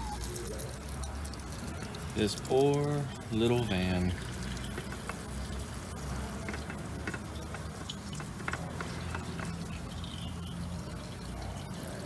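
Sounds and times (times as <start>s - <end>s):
oil trickling and dripping: 0.0s - 12.0s.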